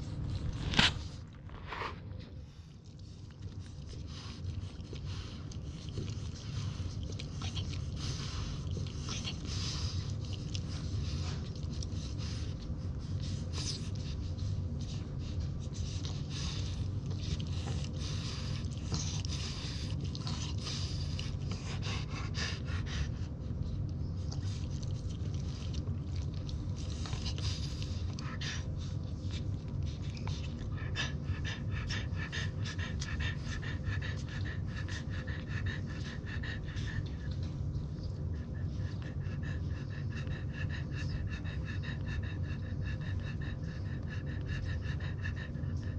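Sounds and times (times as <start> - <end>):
dog panting: 0.0 - 45.9
low hum: 0.0 - 45.9
puppies suckling: 0.0 - 45.9.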